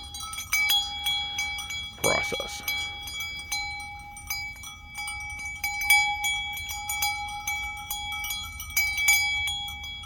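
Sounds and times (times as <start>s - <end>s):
metal animal bell clanking: 0.0s - 10.0s.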